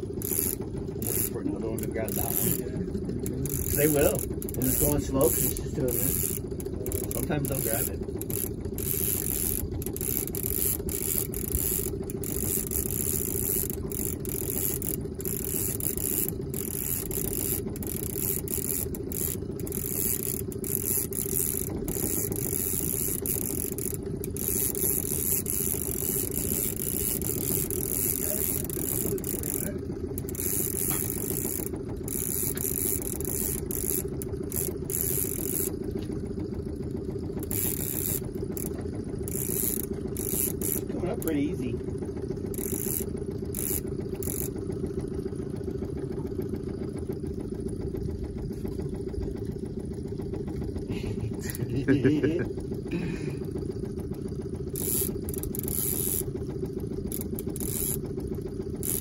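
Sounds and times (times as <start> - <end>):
fishing reel whirring and clicking: 0.0 - 59.0
outboard motor humming: 0.0 - 59.0.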